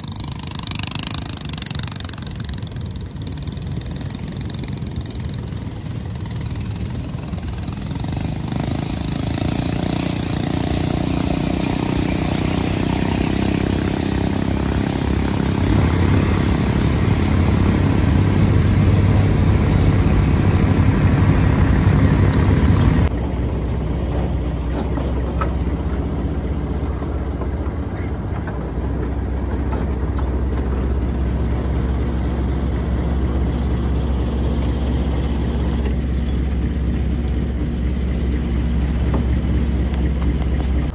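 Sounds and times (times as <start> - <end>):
motor engine running: 0.0 - 40.9.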